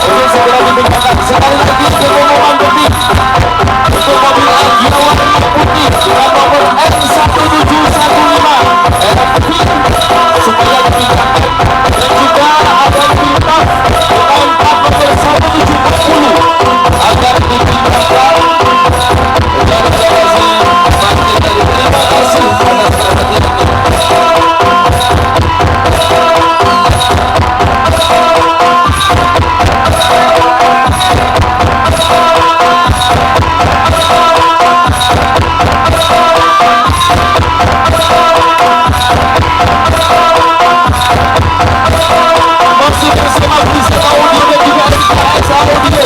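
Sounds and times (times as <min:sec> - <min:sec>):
loud drum-led music: 0:00.0 - 0:46.0.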